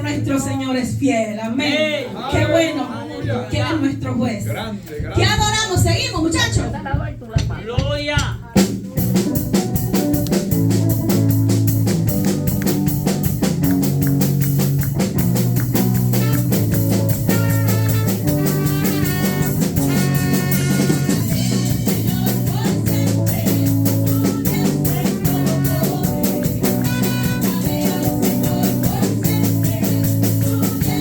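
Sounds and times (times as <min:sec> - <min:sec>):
steady drum beat: 0:03.6 - 0:31.0
band playing instrumental: 0:05.1 - 0:31.0.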